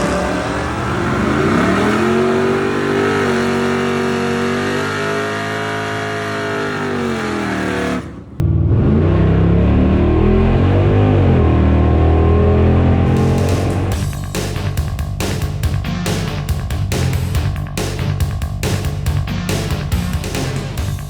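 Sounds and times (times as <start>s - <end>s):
deeper sound: 0.0s - 4.6s, 8.0s - 21.0s
car engine revving: 0.0s - 21.0s.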